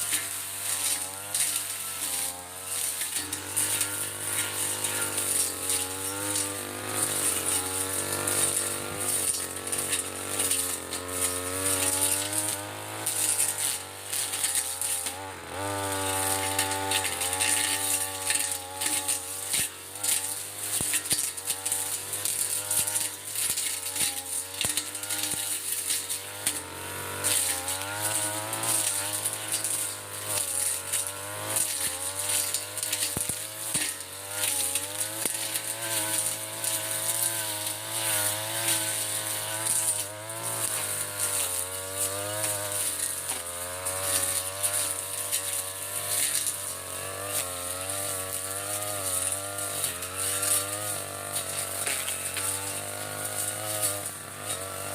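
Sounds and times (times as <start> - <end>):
brush cutter engine running: 0.0 - 54.9.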